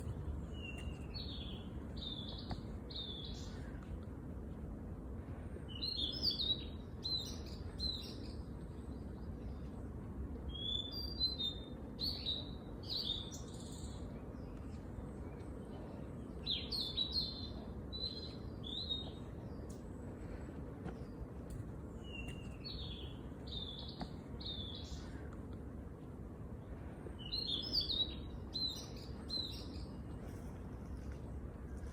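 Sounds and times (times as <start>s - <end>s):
low background rumble: 0.0s - 31.9s
songbirds chirping: 0.0s - 31.9s.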